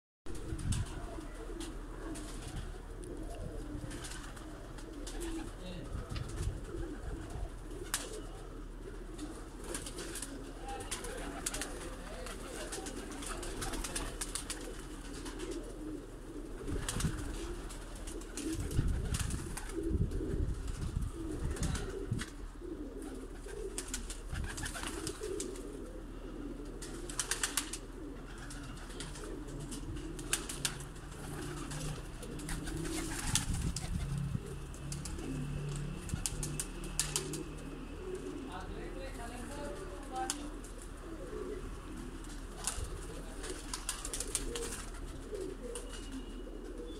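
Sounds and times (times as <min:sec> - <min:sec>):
pigeons cooing: 0:00.3 - 0:46.9.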